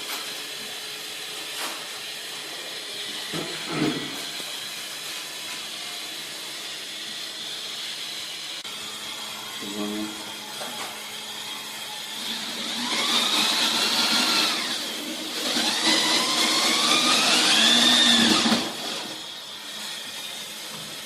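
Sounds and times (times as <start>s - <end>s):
power tool motor whine: 0.3s - 21.0s.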